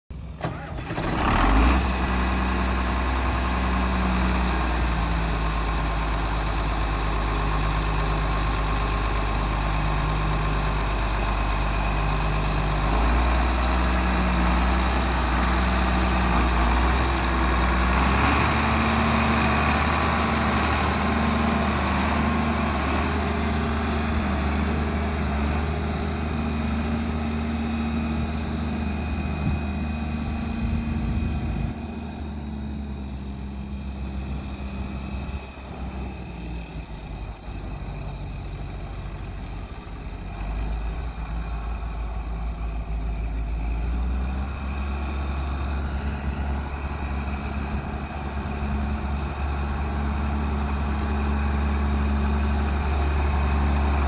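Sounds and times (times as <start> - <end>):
tractor diesel engine running: 0.1 - 54.0.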